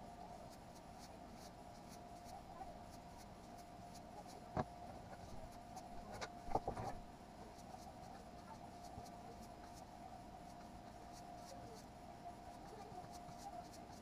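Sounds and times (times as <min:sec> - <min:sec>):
faint steady hum: 0:00.0 - 0:14.0
paintbrush strokes on wood: 0:00.3 - 0:06.2, 0:06.8 - 0:14.0.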